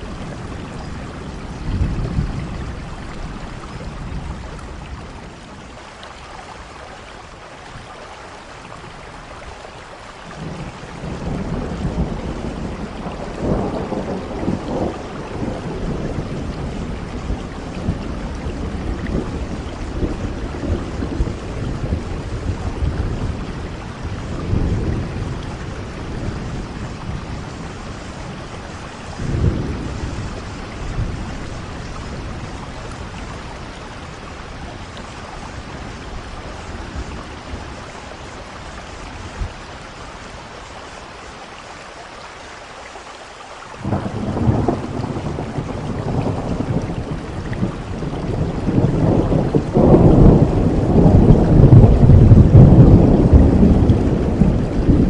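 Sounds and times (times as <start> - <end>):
rolling thunder: 0.0 - 5.5, 10.4 - 38.5, 43.8 - 55.0
steady rain: 0.0 - 55.0.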